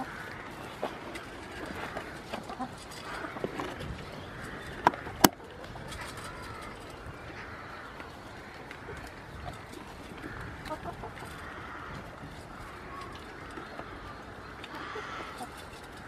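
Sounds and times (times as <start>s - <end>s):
bird calls: 0.0s - 16.0s
hens clucking: 0.0s - 16.0s.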